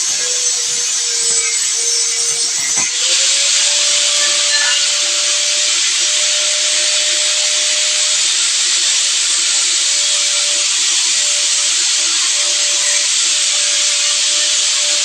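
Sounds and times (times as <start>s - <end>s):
small motor humming with hiss: 0.0s - 15.0s.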